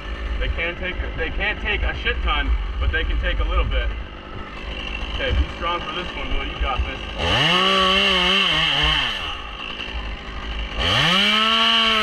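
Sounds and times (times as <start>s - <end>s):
chainsaw revving and cutting: 0.0s - 2.9s, 3.9s - 12.0s.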